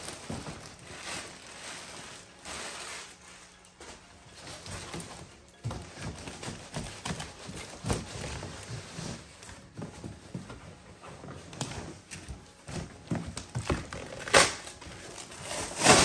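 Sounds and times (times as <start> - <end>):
rustling of wrapped parts: 0.0 - 16.0.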